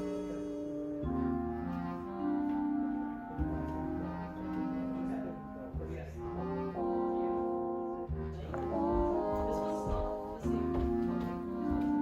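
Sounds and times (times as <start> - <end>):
brass instrumental music: 0.0 - 12.0.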